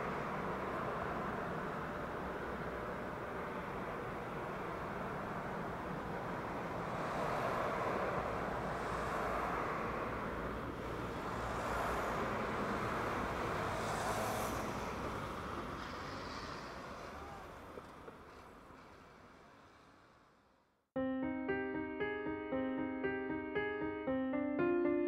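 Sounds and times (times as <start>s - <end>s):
cars passing: 0.0s - 20.6s
steady traffic rush: 0.0s - 20.9s.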